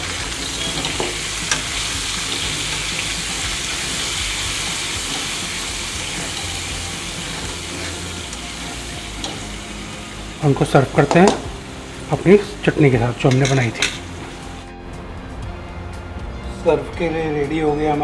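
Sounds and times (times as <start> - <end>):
food sizzling in hot oil: 0.0 - 14.7.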